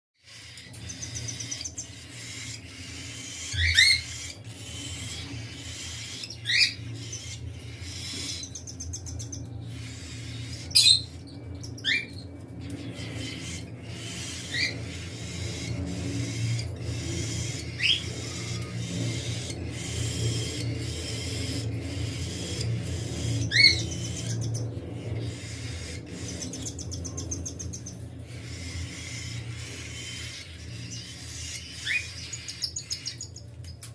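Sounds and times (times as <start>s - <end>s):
steady low hum: 0.2s - 33.9s
cockatiels chattering: 0.3s - 33.9s
cockatiels whistling: 0.4s - 12.2s, 12.8s - 33.4s.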